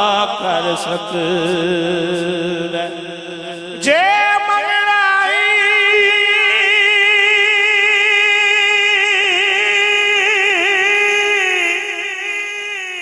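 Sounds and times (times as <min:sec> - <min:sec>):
man singing a long note: 0:00.0 - 0:13.0.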